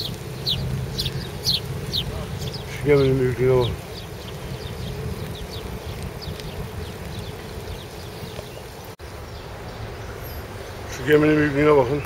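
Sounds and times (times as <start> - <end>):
low buzzing street rumble: 0.0 - 12.0.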